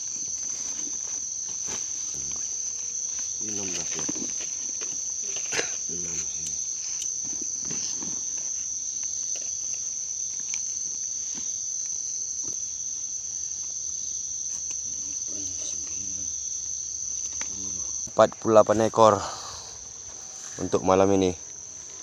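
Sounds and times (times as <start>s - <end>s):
night insects chorus: 0.0s - 22.0s.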